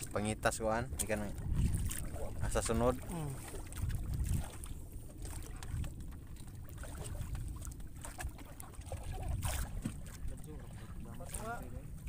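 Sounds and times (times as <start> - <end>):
water lapping around a boat: 0.0 - 12.0
wind rumble: 0.0 - 12.0.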